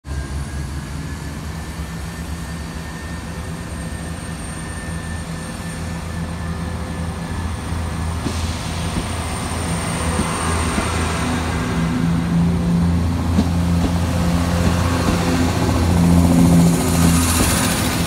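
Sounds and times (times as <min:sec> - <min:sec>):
train engine drone: 0:00.0 - 0:18.0.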